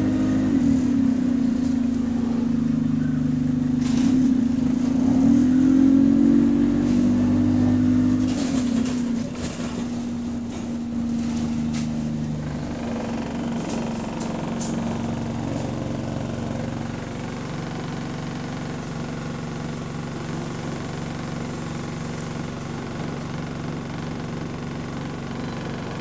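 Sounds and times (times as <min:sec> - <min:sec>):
bus diesel engine idling: 0:00.0 - 0:05.1, 0:07.5 - 0:26.0.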